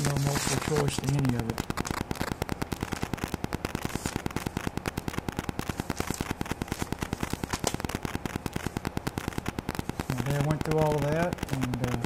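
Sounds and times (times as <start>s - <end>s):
electrical interference clicking buzz: 0.0s - 12.0s.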